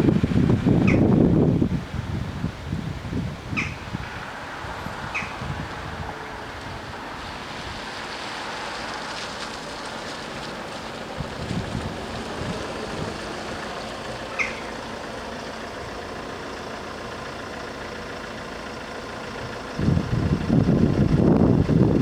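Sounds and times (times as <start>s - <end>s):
loud low vehicle rumble: 0.0s - 22.0s
traffic: 0.0s - 22.0s
wind: 0.0s - 22.0s.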